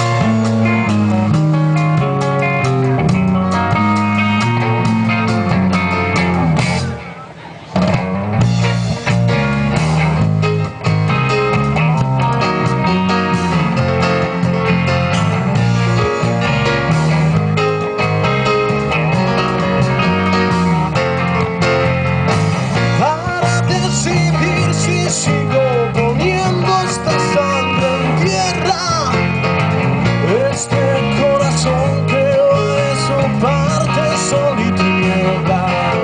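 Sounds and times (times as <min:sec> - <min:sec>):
band playing: 0:00.0 - 0:36.0
bass line: 0:00.0 - 0:36.0
guitar: 0:00.0 - 0:36.0.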